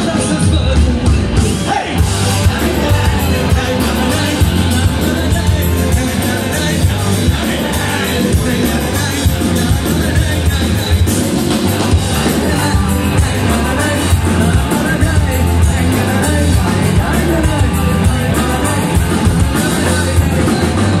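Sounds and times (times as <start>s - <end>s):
live rock band playing: 0.0s - 21.0s
person singing: 0.0s - 21.0s.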